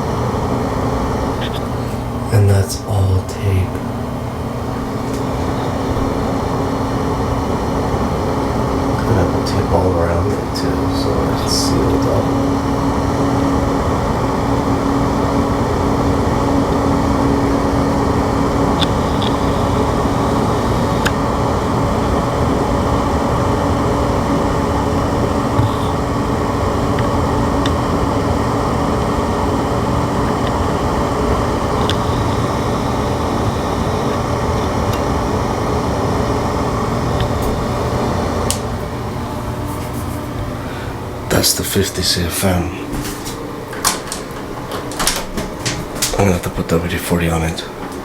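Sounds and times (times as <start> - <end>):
ventilation fan whoosh and hum: 0.0 - 48.0.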